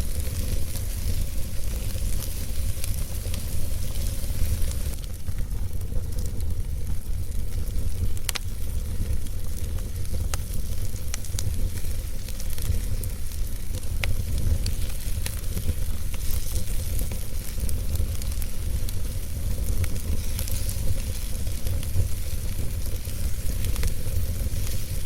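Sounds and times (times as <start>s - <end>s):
logs crackling and popping: 0.0s - 25.0s
wood fire burning: 0.0s - 25.0s.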